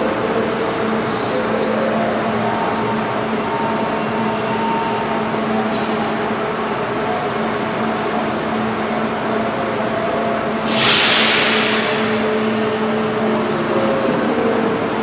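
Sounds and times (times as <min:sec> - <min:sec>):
electric train hum and whirr: 0:00.0 - 0:15.0.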